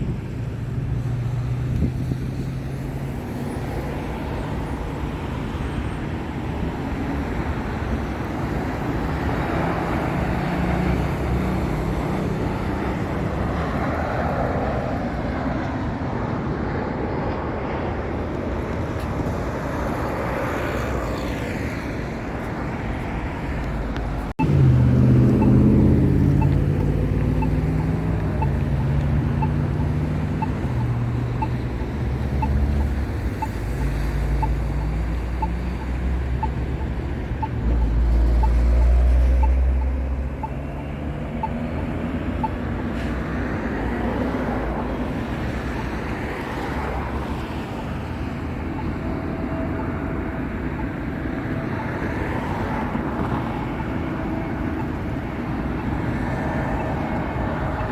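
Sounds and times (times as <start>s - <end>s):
vehicle engine and road rumble: 0.0s - 57.9s.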